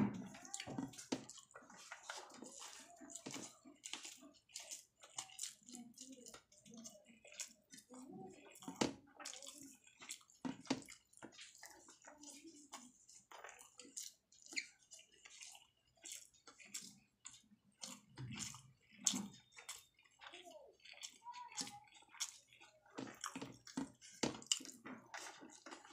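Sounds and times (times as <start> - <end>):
wet chewing and lip smacking: 0.1 - 25.9
fingers squishing rice: 0.2 - 25.9.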